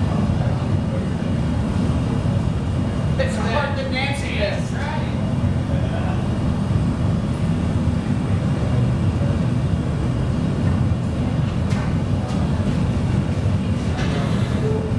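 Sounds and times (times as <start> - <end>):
furnace and ventilation roar: 0.0 - 14.9.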